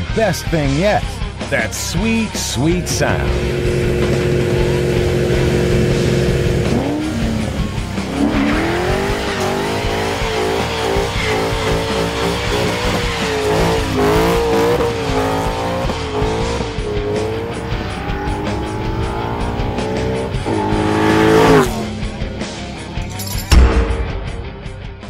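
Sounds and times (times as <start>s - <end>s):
car engine revving: 1.9s - 23.2s.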